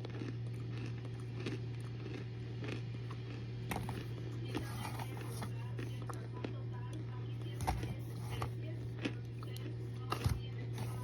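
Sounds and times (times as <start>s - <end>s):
crunchy chewing: 0.0s - 11.0s
steady low hum: 0.0s - 11.0s.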